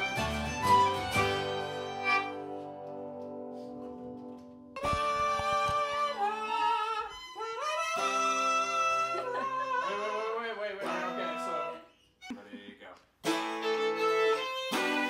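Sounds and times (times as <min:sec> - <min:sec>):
fiddle melody: 0:00.0 - 0:12.6, 0:13.2 - 0:15.0.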